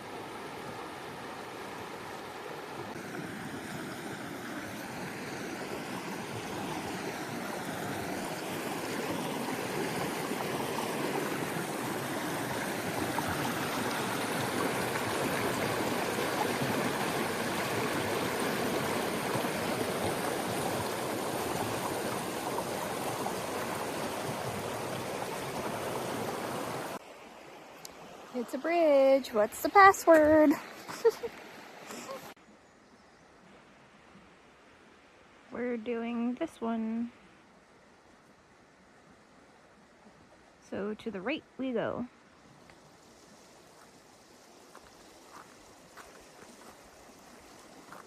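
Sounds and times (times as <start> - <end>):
river water flowing: 0.0 - 48.0.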